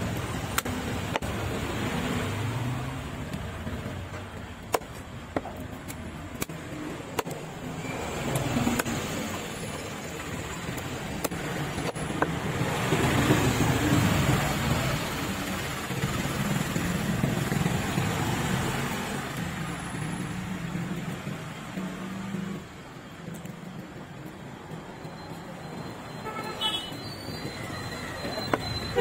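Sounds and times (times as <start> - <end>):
street traffic rumble: 0.0 - 29.0.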